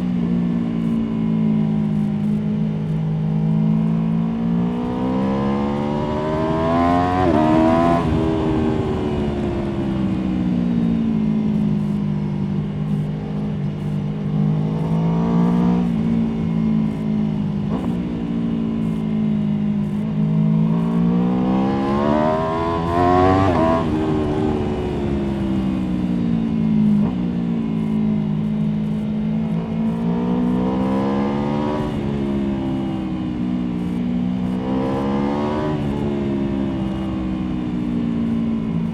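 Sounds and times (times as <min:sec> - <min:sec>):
motorcycle engine revving: 0:00.0 - 0:38.9
road noise: 0:00.0 - 0:38.9.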